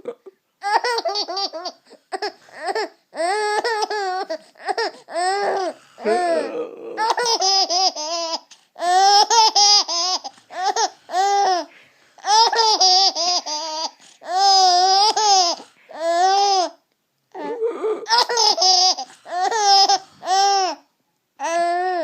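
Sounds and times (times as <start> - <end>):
baby giggling: 0.0 - 16.7, 17.4 - 20.8.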